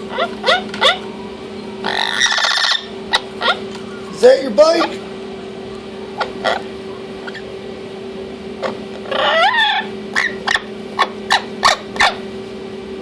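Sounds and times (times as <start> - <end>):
parrot calling: 0.0 - 7.5, 8.6 - 12.2.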